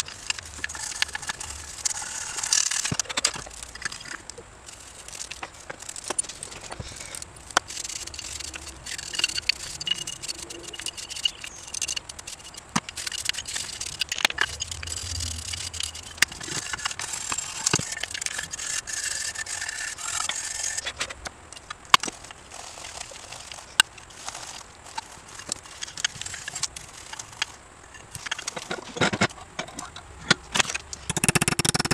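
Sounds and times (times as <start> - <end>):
metal parts clinking: 0.0 - 31.9.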